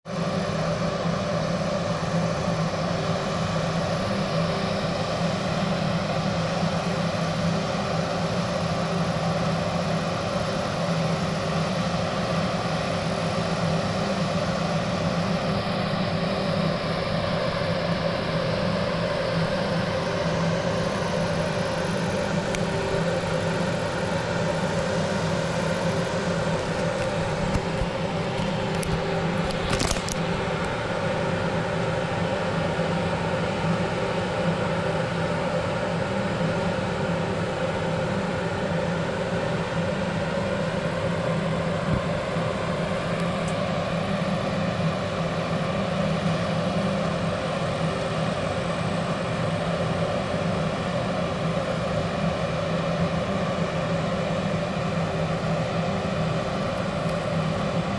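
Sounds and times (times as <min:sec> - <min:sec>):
low mechanical hum: 0:00.1 - 0:57.9.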